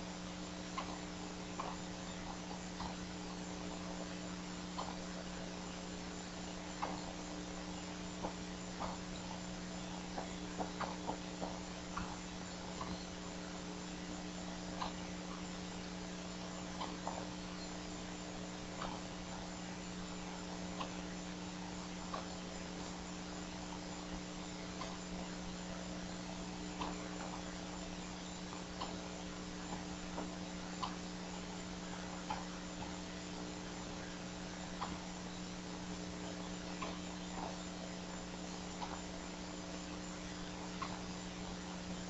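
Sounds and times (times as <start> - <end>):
background hiss: 0.0 - 42.0
electrical hum: 0.0 - 42.0.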